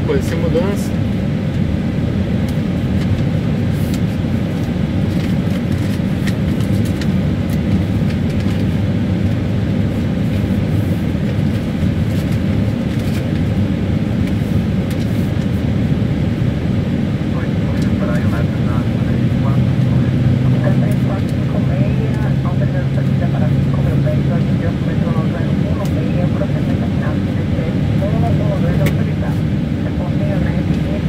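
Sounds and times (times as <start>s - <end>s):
aircraft cabin low rumble: 0.0s - 31.0s.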